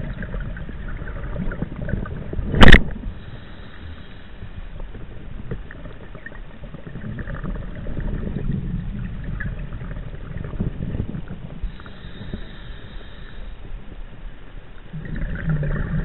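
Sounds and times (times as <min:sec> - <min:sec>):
underwater breathing bubbles: 0:00.0 - 0:13.7, 0:14.9 - 0:16.0.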